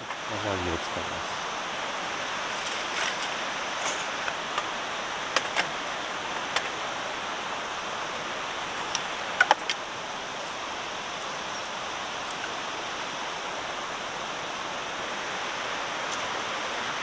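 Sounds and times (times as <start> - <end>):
rushing background noise: 0.0 - 17.0.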